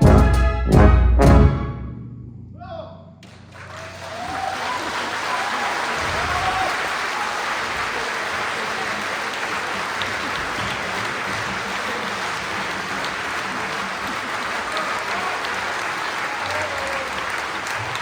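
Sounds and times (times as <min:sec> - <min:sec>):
audience applauding: 0:03.2 - 0:18.0.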